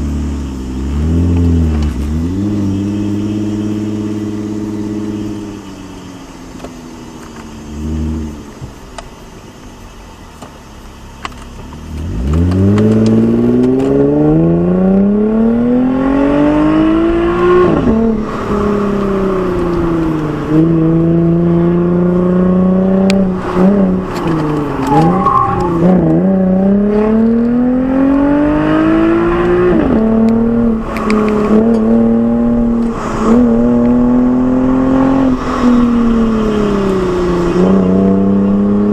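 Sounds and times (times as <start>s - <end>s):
car exhaust accelerating: 0.0s - 38.9s.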